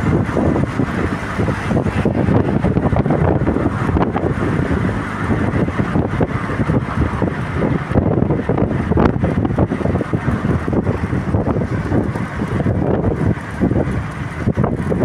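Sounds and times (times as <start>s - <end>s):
car engine and road noise: 0.0s - 15.0s
wind buffeting microphone: 0.0s - 15.0s.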